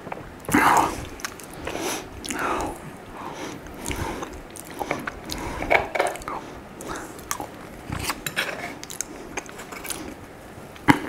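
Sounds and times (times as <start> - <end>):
biting and chewing food: 0.0 - 11.0.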